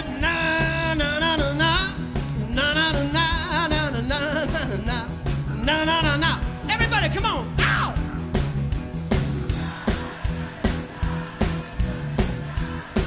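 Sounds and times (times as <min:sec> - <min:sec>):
person singing with a band: 0:00.0 - 0:08.0, 0:09.4 - 0:13.0
steady bass beat: 0:00.0 - 0:13.0.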